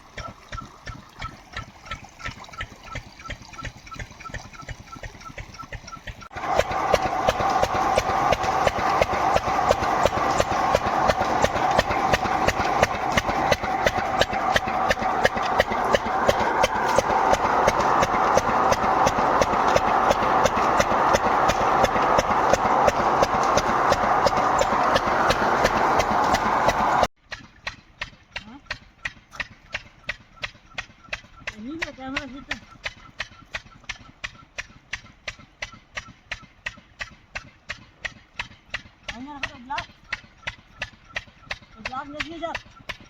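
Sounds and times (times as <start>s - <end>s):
small engine knocking: 0.0s - 43.0s.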